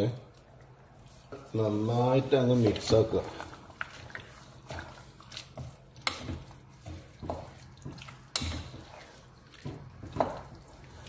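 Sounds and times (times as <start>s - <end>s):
meat squelching and sloshing in pot: 0.0s - 11.0s.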